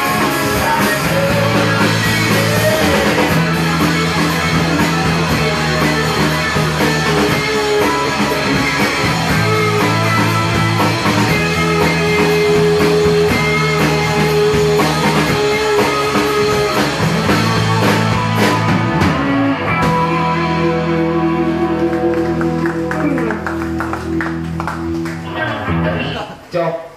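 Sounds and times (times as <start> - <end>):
electric guitar slide: 0.0 - 26.4
live rock band playing: 0.0 - 26.4.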